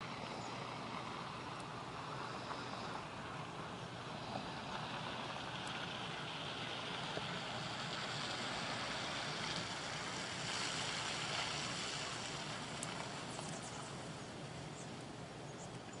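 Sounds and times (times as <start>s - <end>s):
distant traffic on wet roads: 0.0s - 16.0s.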